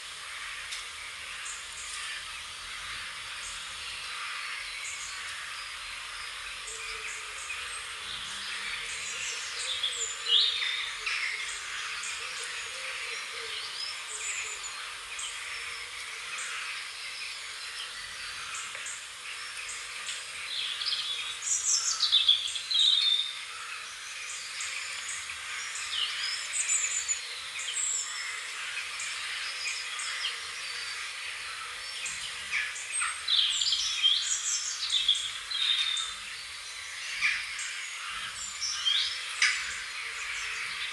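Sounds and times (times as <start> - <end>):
songbirds chirping and singing: 0.0 - 40.9
steady hiss: 0.0 - 40.9.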